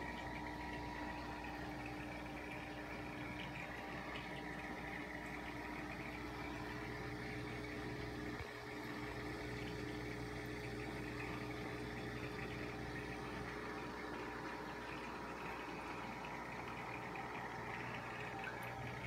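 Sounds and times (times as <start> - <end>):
aquarium pump hum: 0.0 - 19.0.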